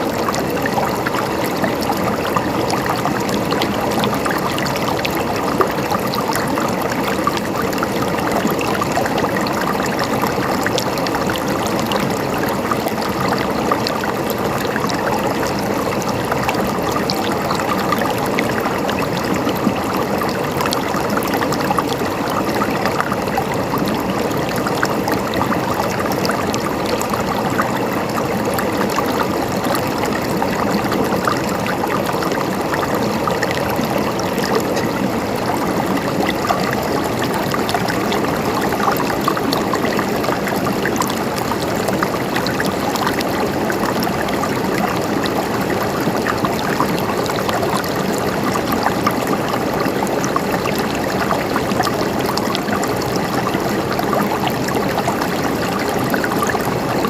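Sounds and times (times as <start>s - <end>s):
river water flowing and splashing: 0.0s - 57.0s.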